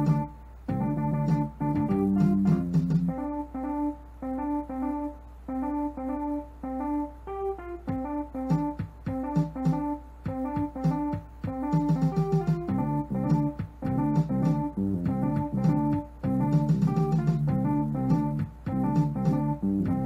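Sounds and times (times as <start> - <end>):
electronic repeating melody: 0.0 - 20.0
low electronic chord: 0.0 - 20.0.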